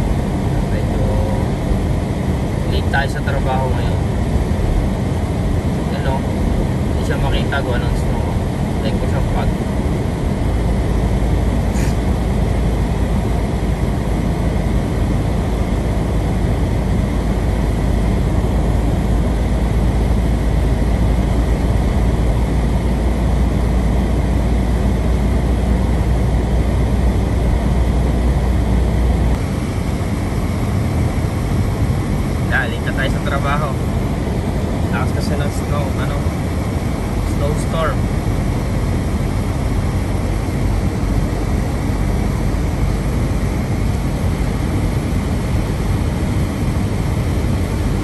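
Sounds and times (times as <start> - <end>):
road noise in car: 0.0 - 48.0
wind noise: 0.0 - 48.0.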